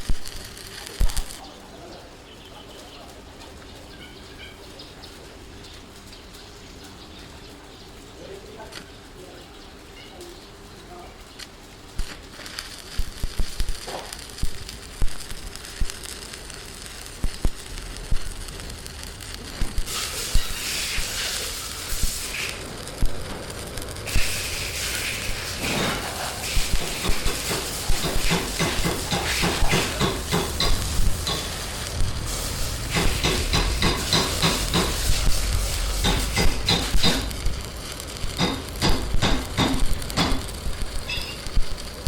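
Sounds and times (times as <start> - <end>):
crackling with sharp pops: 0.0 - 42.0
steady high hiss: 0.0 - 42.0.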